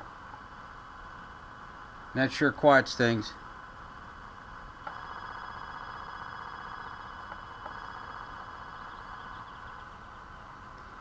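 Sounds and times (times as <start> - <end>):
faint high whine tones: 0.0 - 11.0.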